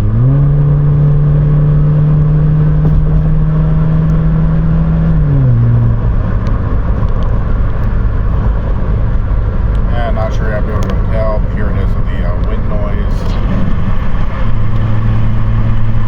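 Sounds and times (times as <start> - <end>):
exhaust drone: 0.0 - 16.0
tyre and road rumble: 0.0 - 16.0.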